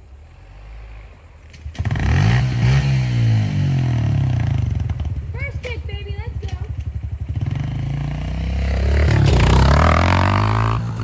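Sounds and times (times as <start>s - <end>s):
dirt bike engine approaching: 0.0s - 11.0s.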